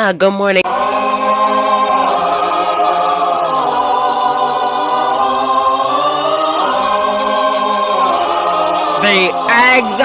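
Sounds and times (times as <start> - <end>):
choir singing sustained chords: 0.6 - 10.0.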